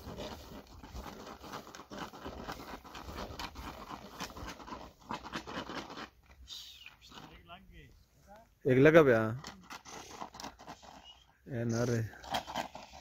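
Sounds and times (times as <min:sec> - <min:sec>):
wheat stalks rustling and crackling: 0:00.0 - 0:13.0.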